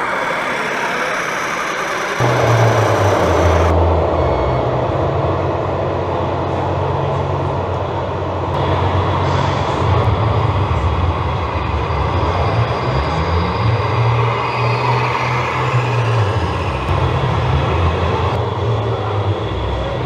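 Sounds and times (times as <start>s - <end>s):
busy hall noise: 0.0s - 20.0s
electronic engine sound hum: 0.0s - 20.0s.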